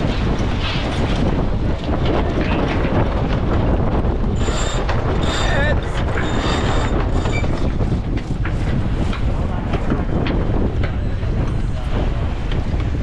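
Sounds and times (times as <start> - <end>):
water rushing along a hull: 0.0 - 13.0
wind buffeting the microphone: 0.0 - 13.0.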